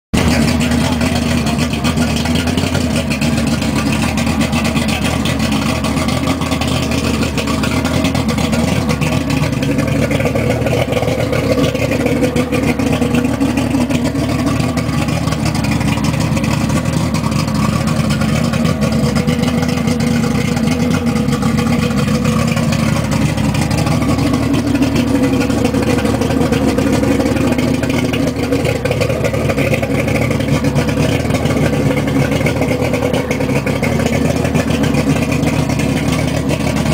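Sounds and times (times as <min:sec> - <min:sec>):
outboard motor running: 0:00.1 - 0:36.9.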